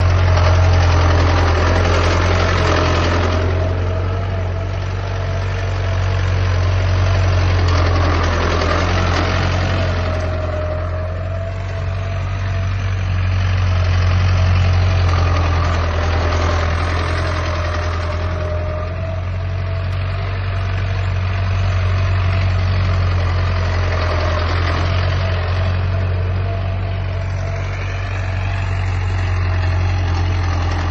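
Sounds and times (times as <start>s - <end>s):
tractor diesel engine humming: 0.0s - 30.9s.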